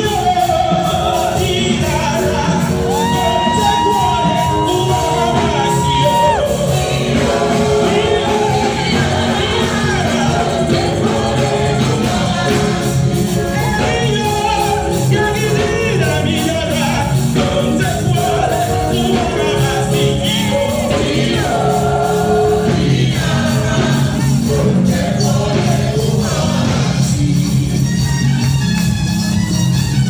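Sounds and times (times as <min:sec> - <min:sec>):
gospel music with singing: 0:00.0 - 0:30.0.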